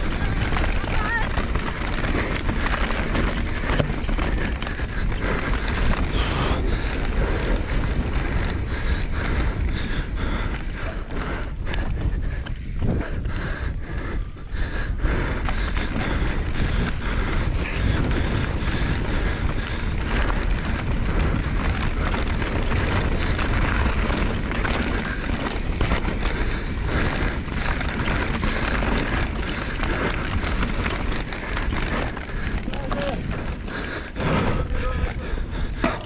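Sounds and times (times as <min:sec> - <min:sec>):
bike tyres rumbling over rock: 0:00.0 - 0:36.0
wind buffeting microphone: 0:00.0 - 0:36.0.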